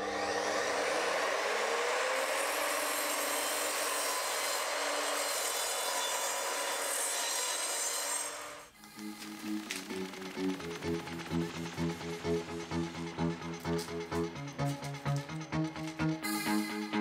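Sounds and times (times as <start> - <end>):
mitre saw cutting wood: 0.0 - 16.1.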